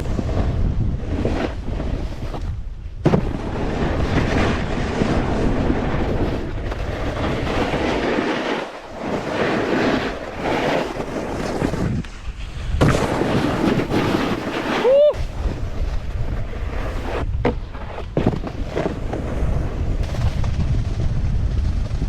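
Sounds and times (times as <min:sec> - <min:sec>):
snowboard sliding over snow: 0:00.0 - 0:22.0
wind on camera microphone: 0:00.0 - 0:22.0.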